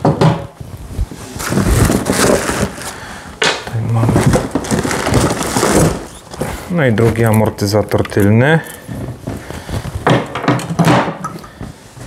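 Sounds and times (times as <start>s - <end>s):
bubble wrap and cardboard rustling: 0.5s - 10.4s.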